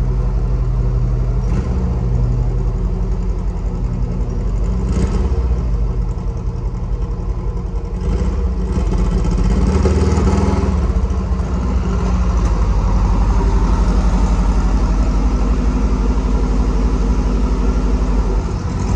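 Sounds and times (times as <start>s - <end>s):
dune buggy engine running: 0.0s - 18.9s.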